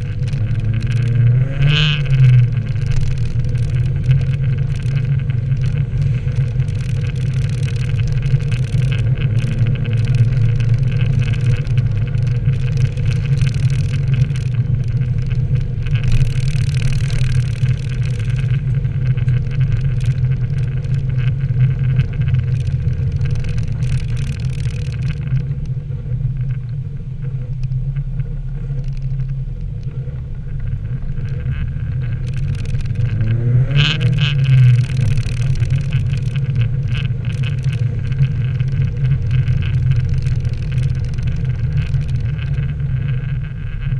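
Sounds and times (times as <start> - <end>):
car engine humming: 0.0 - 43.9.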